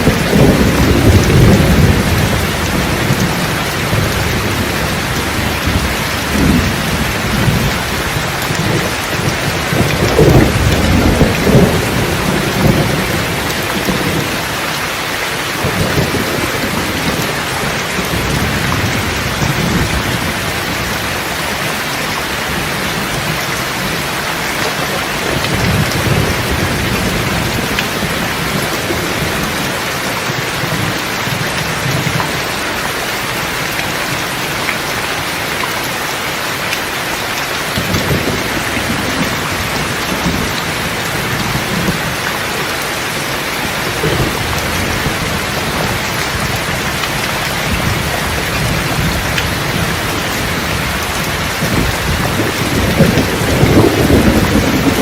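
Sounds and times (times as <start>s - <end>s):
distant thunder rumbling: 0.0s - 32.8s, 37.3s - 55.0s
heavy rainfall: 0.0s - 55.0s.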